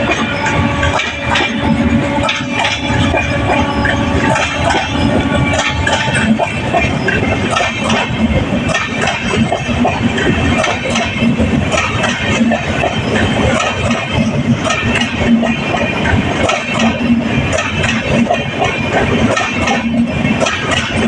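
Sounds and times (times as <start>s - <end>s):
train wheels clattering on track: 0.0s - 21.0s.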